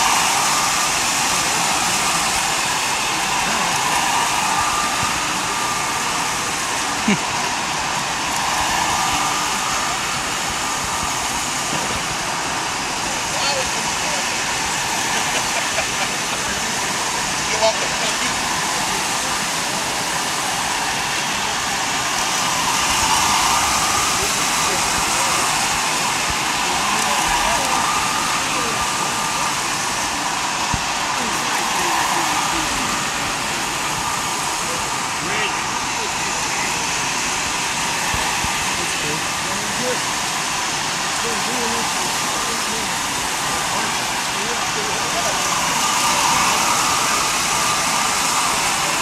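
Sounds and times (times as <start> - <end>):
crowded hall noise: 0.0 - 49.0
faint voices: 0.0 - 49.0.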